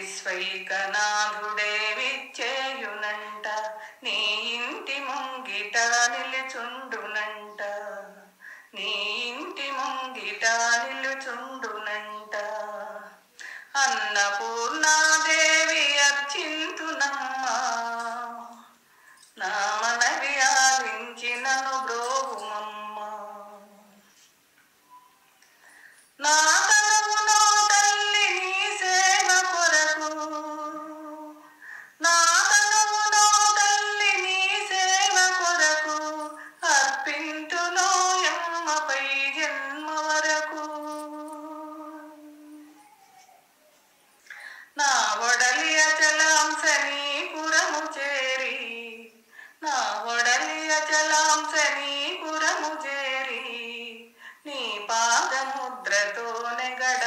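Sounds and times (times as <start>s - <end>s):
woman singing devotional song: 0.0s - 24.4s, 25.4s - 43.0s, 44.2s - 57.0s.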